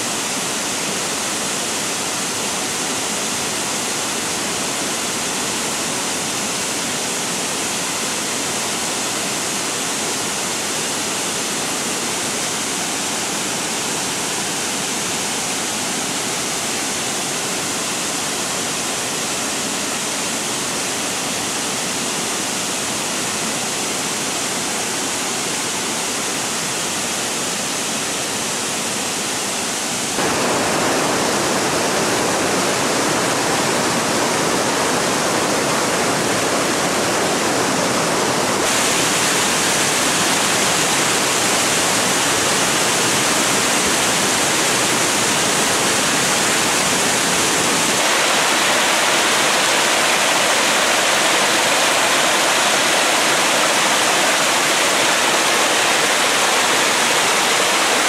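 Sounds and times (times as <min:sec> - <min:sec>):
waterfall rushing hiss: 0:00.0 - 0:58.0.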